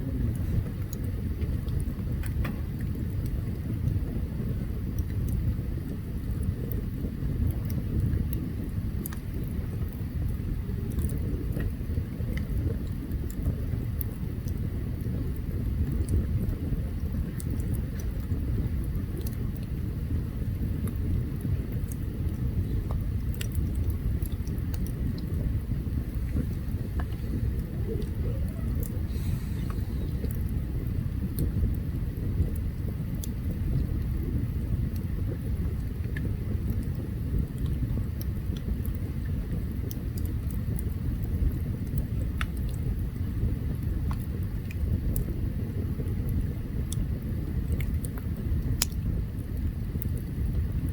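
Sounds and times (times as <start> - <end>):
burning wood crackling and popping: 0.0 - 50.9
campfire rumble: 0.0 - 50.9.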